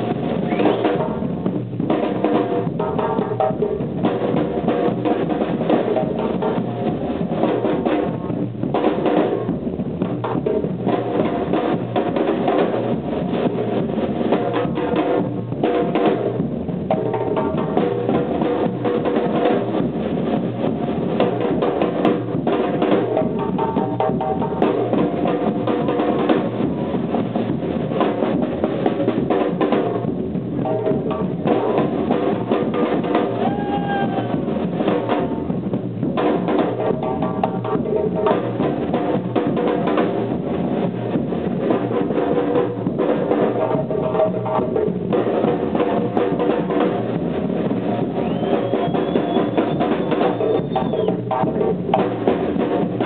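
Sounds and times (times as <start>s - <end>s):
bass drums: 0.0s - 53.0s
djembe: 0.0s - 53.0s
drums struck with sticks: 0.0s - 53.0s.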